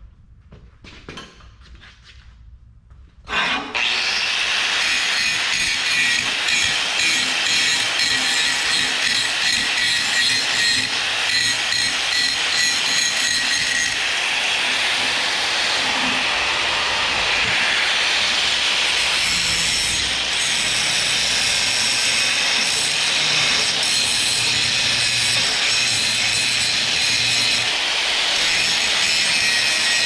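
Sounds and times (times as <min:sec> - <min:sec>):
power grinder grinding steel: 0:03.3 - 0:30.0.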